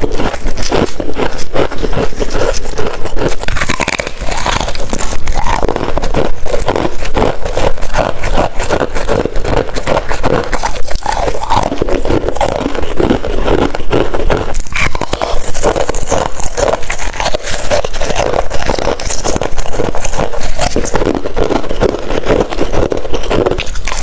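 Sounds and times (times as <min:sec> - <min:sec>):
crunching and chewing frost: 0:00.0 - 0:24.0.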